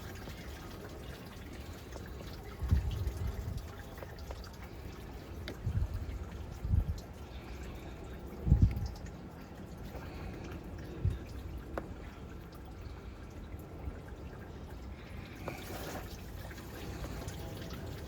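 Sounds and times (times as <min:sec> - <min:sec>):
coolant dripping and trickling: 0:00.0 - 0:18.0.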